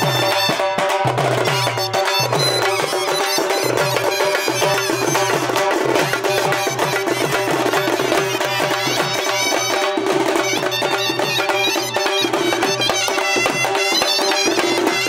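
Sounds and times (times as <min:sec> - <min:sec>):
drums beaten with sticks: 0:00.0 - 0:15.0
shehnai melody: 0:00.0 - 0:15.0.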